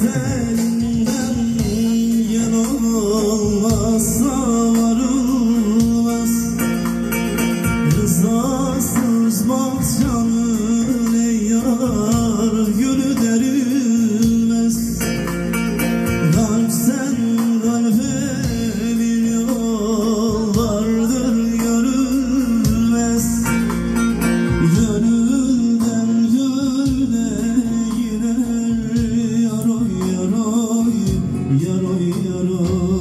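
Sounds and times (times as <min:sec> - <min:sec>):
person singing folk song: 0:00.0 - 0:33.0.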